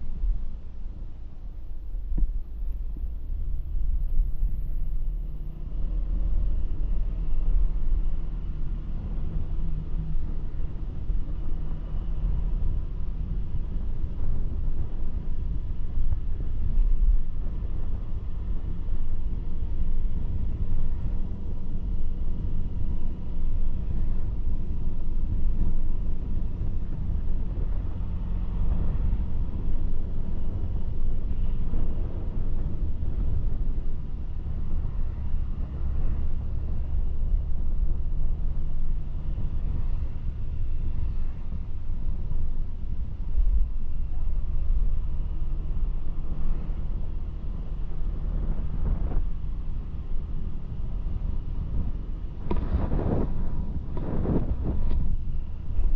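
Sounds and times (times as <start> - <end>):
vehicle engine and road noise: 0.0 - 55.9.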